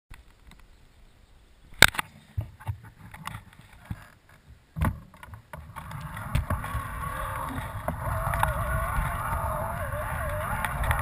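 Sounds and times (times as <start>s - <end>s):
rumbling on rough dirt track: 1.8s - 11.0s.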